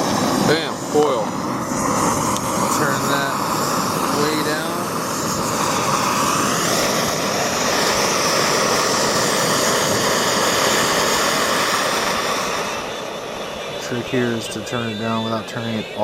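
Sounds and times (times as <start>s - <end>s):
camp stove burner hissing: 0.0s - 16.0s.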